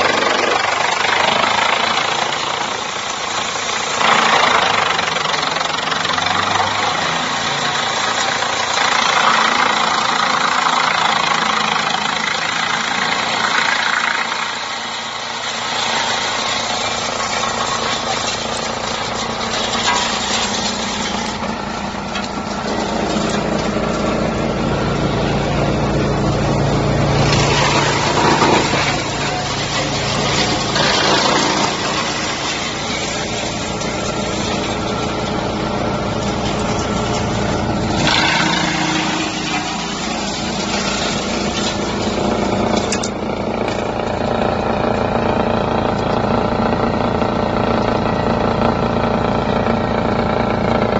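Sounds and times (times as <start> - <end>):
wood chipper machinery drone: 0.0 - 50.9
wood crunching in chipper: 0.0 - 50.9.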